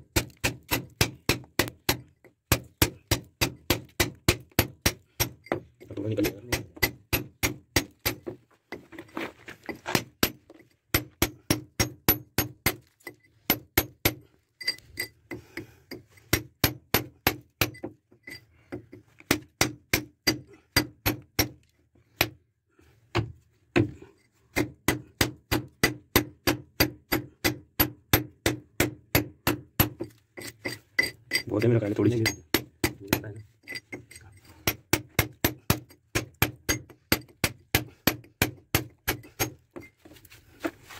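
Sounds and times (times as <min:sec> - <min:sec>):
hammer striking chisel on concrete: 0:00.1 - 0:08.4, 0:09.7 - 0:18.4, 0:19.3 - 0:21.6, 0:24.5 - 0:39.9.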